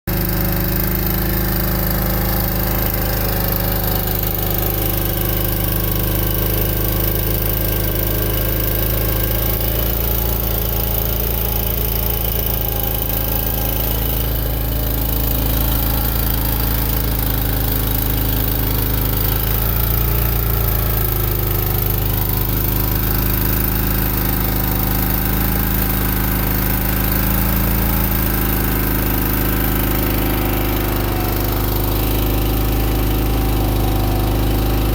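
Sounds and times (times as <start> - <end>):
trencher engine under load: 0.0 - 34.9.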